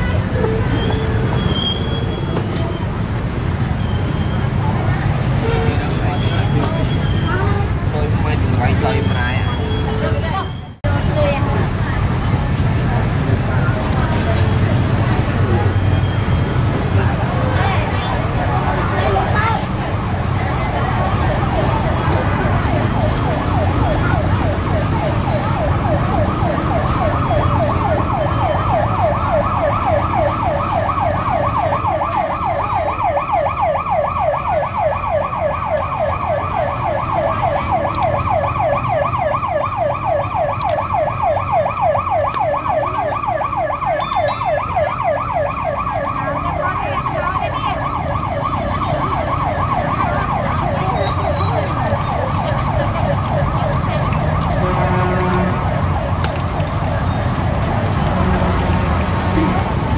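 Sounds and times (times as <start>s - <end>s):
market noise: 0.0s - 33.8s, 35.3s - 59.9s
traffic noise: 0.0s - 59.9s.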